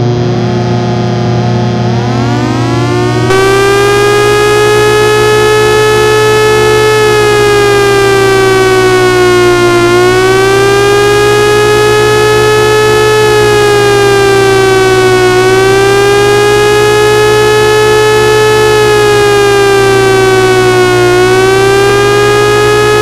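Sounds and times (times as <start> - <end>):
civil defense siren wailing: 1.9 - 23.0.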